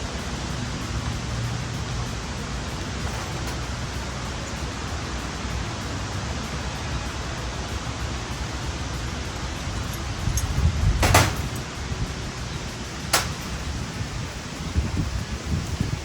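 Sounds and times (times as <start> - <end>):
rushing wind: 0.0 - 16.0.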